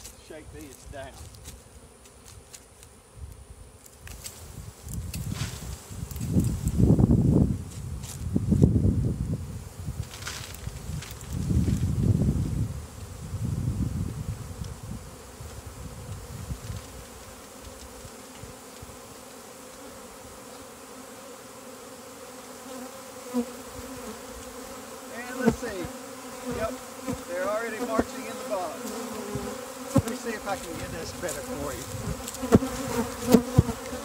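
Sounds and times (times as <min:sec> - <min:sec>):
bee swarm buzzing: 0:00.0 - 0:34.0
single bee flying past: 0:01.2 - 0:34.0.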